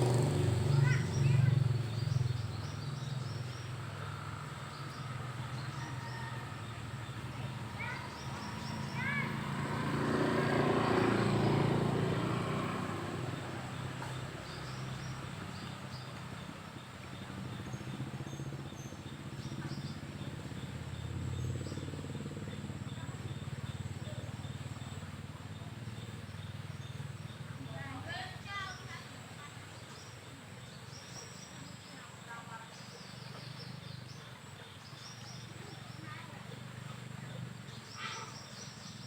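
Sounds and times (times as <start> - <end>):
birds chirping: 0.0 - 39.0
vehicle engine hum passing: 0.0 - 39.0.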